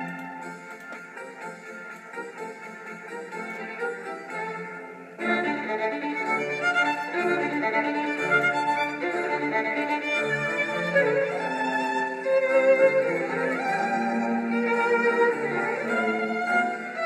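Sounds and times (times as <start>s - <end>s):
bowed-string accompaniment: 0.0s - 17.0s
violin melody: 0.0s - 17.0s.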